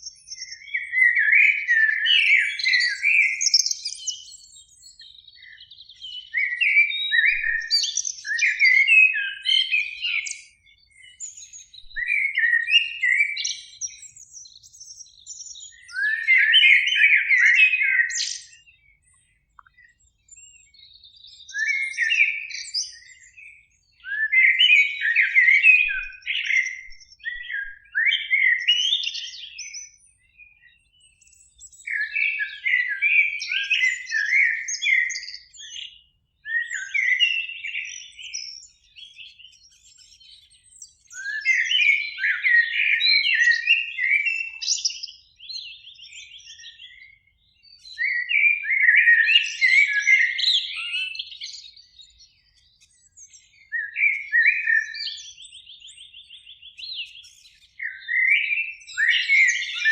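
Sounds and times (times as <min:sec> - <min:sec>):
blackbird singing: 0:00.0 - 0:59.9.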